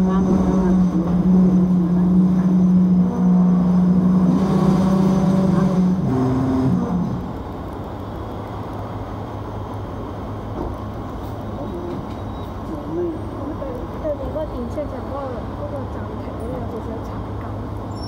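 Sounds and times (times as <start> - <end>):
street noise: 0.0 - 18.0
tram electric hum: 0.0 - 18.0.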